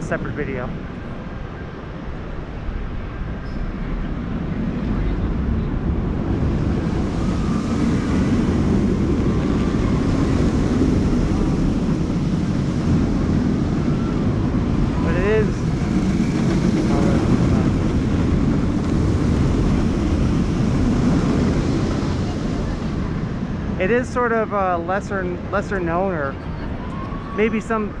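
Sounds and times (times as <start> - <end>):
roller coaster rumbling on track: 0.0 - 28.0.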